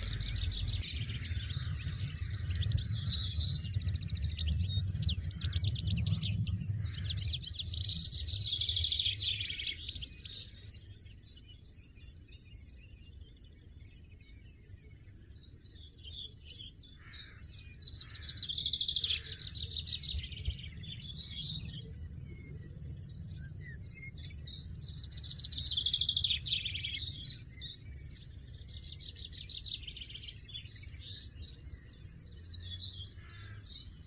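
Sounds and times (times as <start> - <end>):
goldfinches twittering: 0.0 - 34.0.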